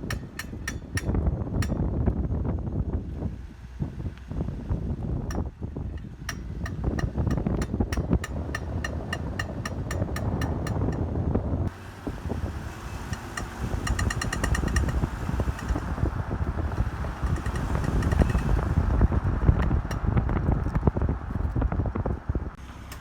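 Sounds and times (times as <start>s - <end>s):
low road rumble: 0.0s - 23.0s.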